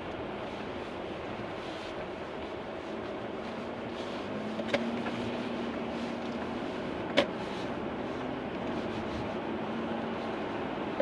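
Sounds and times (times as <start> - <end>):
car road noise on wet road: 0.0 - 11.0.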